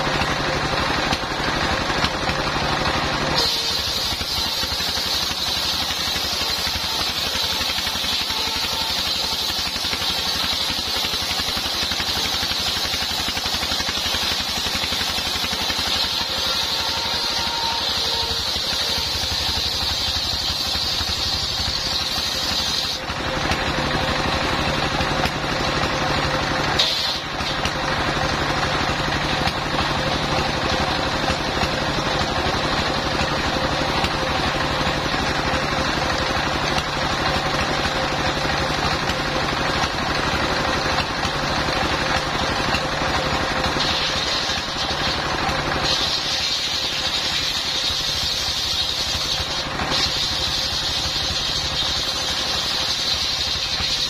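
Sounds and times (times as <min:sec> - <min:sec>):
circular saw cutting log: 0:00.0 - 0:54.0
diesel engine running: 0:00.0 - 0:54.0
saw blade whine: 0:00.0 - 0:54.0.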